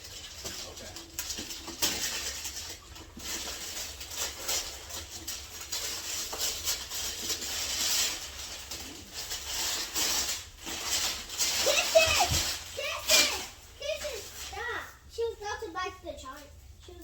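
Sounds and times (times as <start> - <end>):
wrapping paper rustling and tearing: 0.0 - 16.0.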